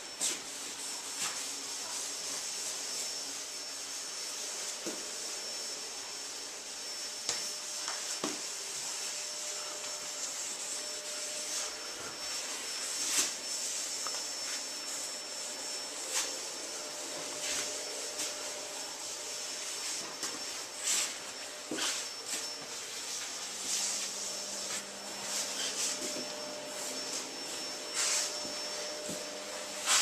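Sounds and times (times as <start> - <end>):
machine hissing with high whine: 0.0 - 30.0.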